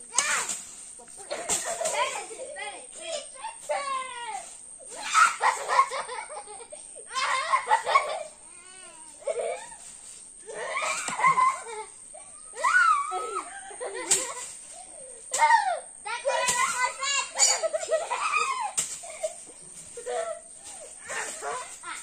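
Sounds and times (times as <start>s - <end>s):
girls laughing and giggling: 1.1s - 22.0s.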